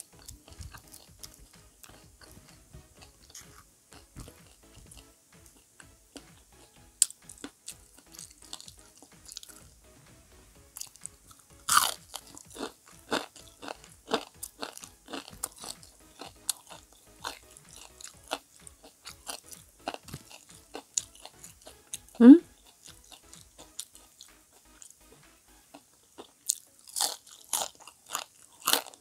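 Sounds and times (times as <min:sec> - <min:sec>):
crunchy chewing: 0:00.0 - 0:09.7, 0:10.8 - 0:24.9, 0:25.7 - 0:29.0.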